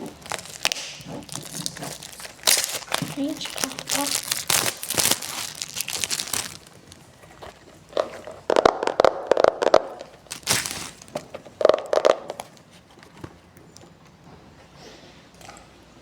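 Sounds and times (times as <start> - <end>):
plastic wrapping crinkling: 0.0 - 12.8.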